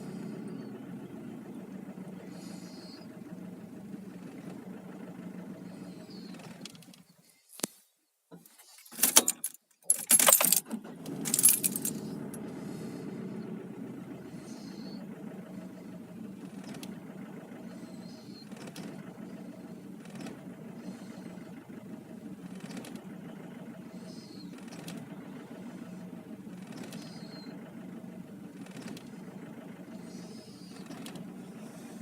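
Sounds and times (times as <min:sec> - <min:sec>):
diesel engine idling unevenly: 0:00.0 - 0:06.9, 0:10.8 - 0:32.0
engine cranking: 0:00.0 - 0:07.1, 0:08.8 - 0:32.0.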